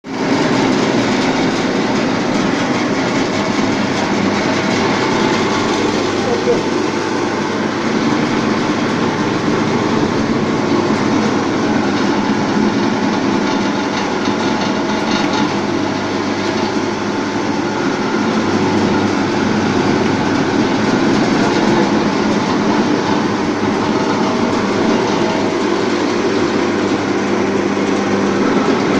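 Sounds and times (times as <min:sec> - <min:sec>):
machine tool rattle and hum: 0:00.1 - 0:28.9.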